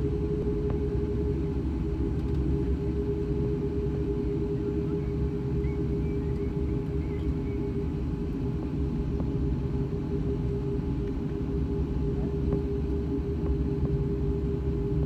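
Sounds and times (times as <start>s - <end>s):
aircraft engines rumbling in cabin: 0.0s - 15.0s.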